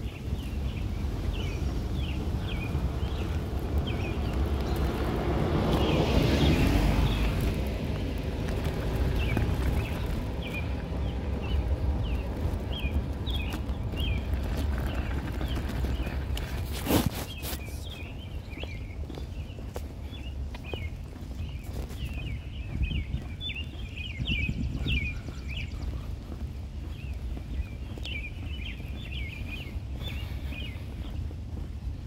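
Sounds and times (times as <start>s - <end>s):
stroller wheels rolling on asphalt: 0.0s - 32.0s.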